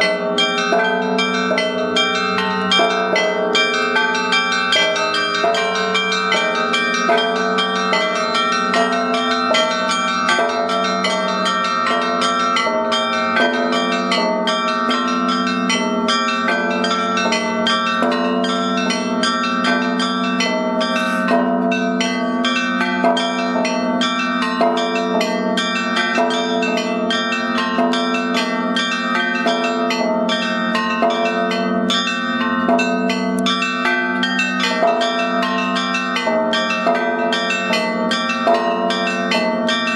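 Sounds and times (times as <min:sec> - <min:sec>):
deep bell ringing hum: 0:00.0 - 0:39.9
small bells striking: 0:00.0 - 0:39.9.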